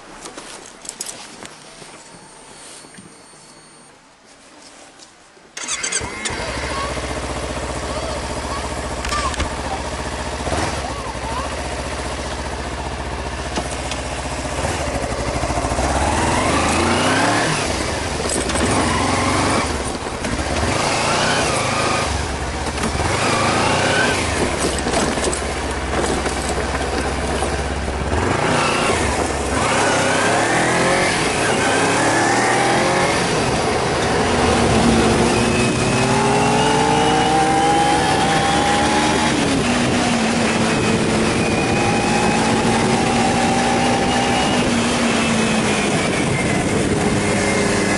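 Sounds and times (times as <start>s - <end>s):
motorcycle engine revving through gears: 5.6s - 47.9s.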